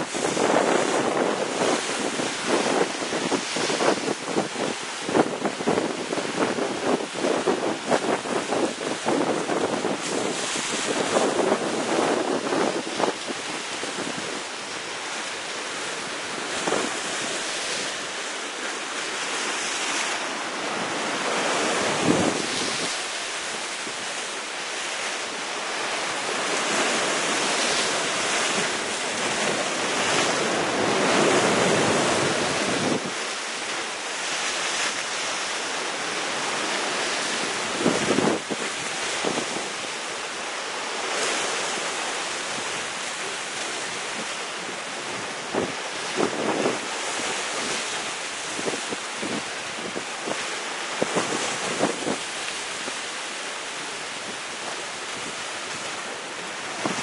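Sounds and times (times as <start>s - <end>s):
sea waves breaking against rocks: 0.0s - 57.0s.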